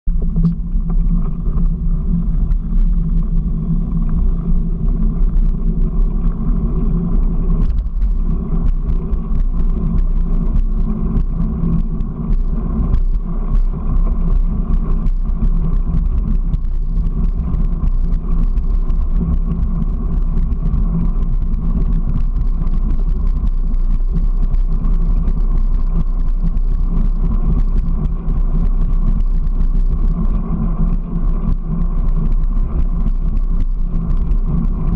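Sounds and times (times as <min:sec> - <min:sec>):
vehicle rolling on concrete: 0:00.1 - 0:34.9.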